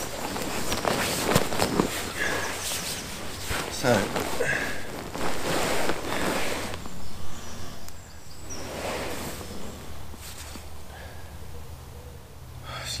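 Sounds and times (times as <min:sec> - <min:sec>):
rustling and shuffling: 0:00.0 - 0:11.4
outdoor background: 0:00.0 - 0:13.0.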